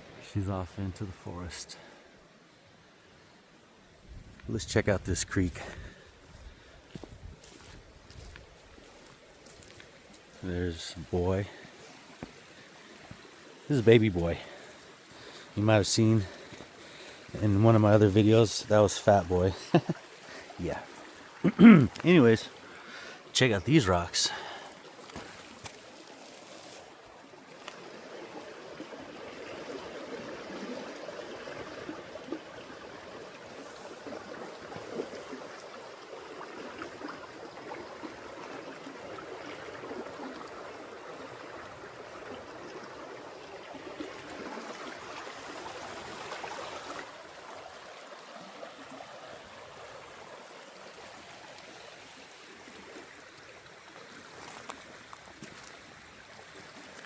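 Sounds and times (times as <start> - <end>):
creek trickling over rocks: 3.6 - 57.0.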